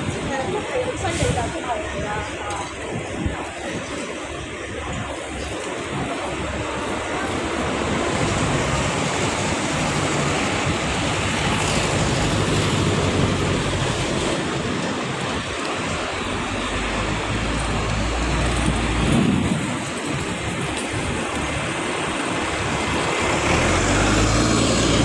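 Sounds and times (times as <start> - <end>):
street hiss: 0.0 - 25.0
traffic engines rumbling: 0.0 - 25.0.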